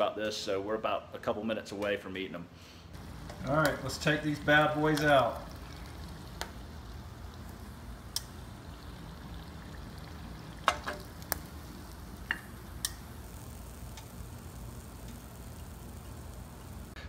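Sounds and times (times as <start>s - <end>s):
oil sizzling in a skillet: 3.0s - 17.0s.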